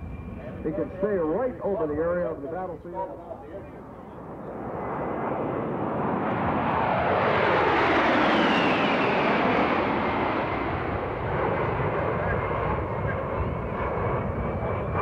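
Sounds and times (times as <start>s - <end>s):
high engine whine: 0.0s - 15.0s
jets flying overhead: 0.0s - 15.0s.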